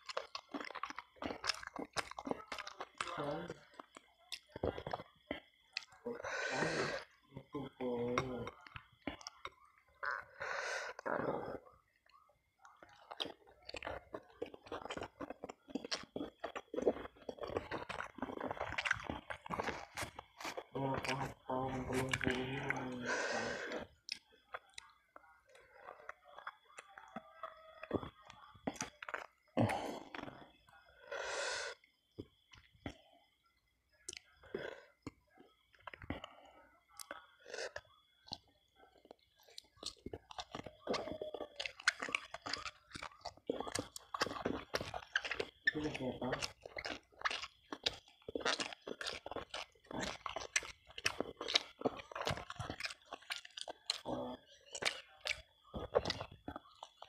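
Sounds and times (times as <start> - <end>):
person chewing with mouth smacks: 0.0 - 57.0.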